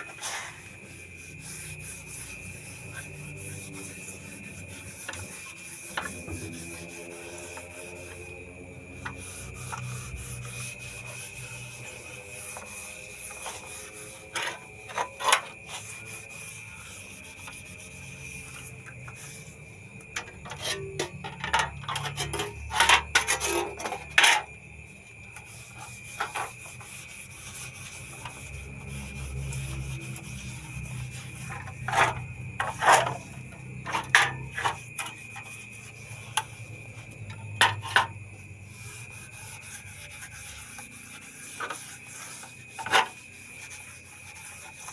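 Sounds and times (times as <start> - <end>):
scrubbing fan parts: 0.0 - 44.9.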